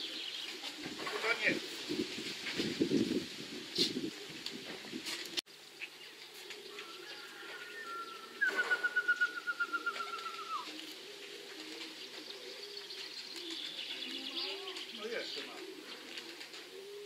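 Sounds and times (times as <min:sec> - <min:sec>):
pigeons cooing softly: 0:00.0 - 0:02.2, 0:03.4 - 0:17.0.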